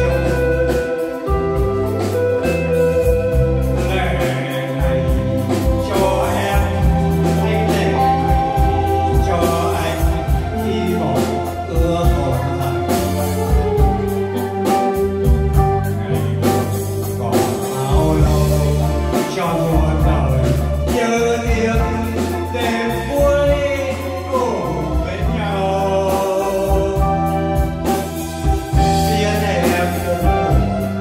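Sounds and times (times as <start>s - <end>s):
live band playing: 0.0s - 31.0s
man singing: 0.0s - 31.0s.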